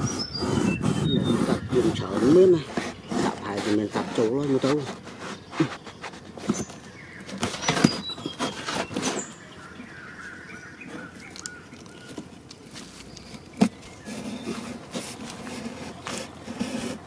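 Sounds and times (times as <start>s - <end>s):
knife cutting cardboard: 0.0s - 9.5s, 12.1s - 17.0s.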